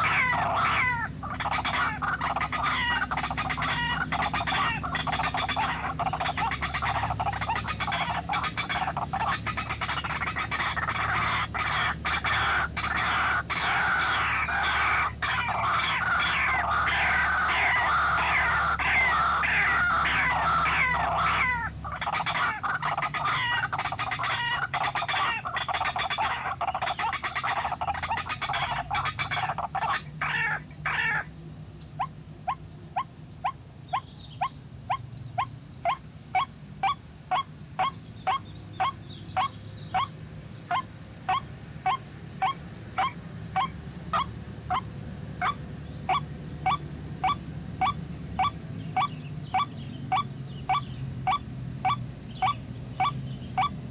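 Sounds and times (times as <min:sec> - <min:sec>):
waterhen croaking calls: 0:00.0 - 0:53.9.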